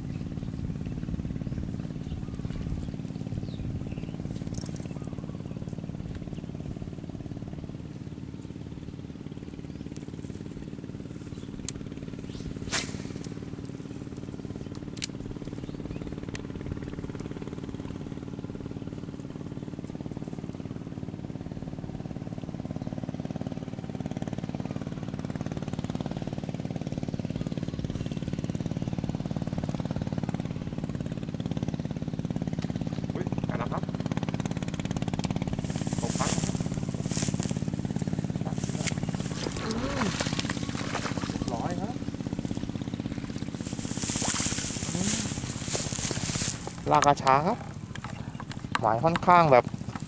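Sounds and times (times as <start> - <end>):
engine droning: 0.0 - 50.0.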